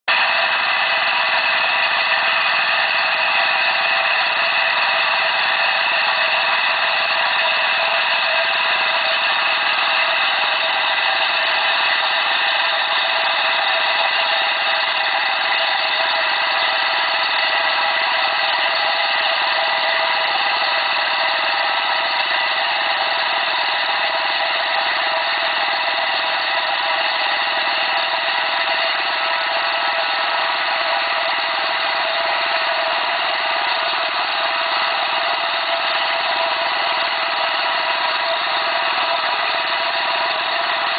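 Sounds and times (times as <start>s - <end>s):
diesel engine under load: 0.1s - 40.9s.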